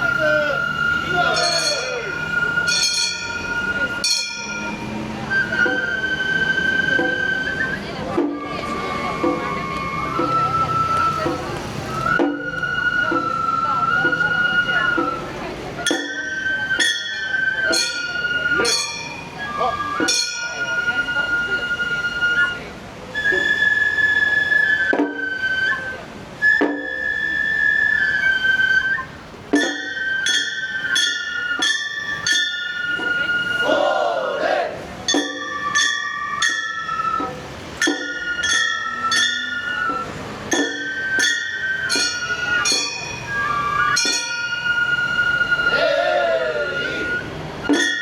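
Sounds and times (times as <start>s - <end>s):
bamboo flutes playing melody: 0.0s - 48.0s.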